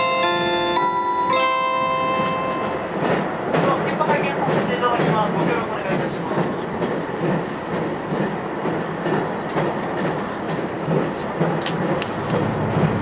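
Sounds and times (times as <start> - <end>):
train wheels and engine rumble: 0.0 - 13.0
faint rail clicks: 2.2 - 13.0.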